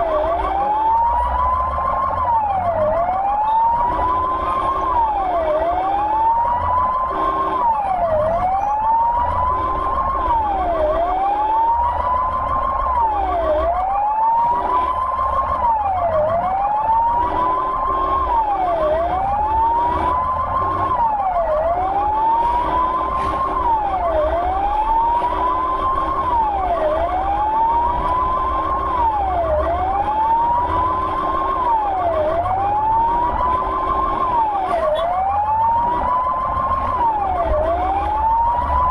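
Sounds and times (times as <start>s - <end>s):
ambulance siren wailing: 0.0s - 38.9s
engine and road rumble: 0.0s - 38.9s.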